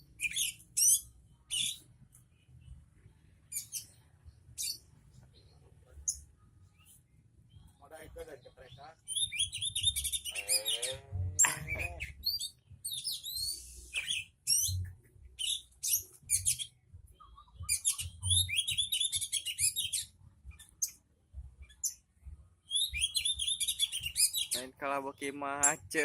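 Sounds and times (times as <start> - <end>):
songbird chirping and trilling: 0.0 - 26.0.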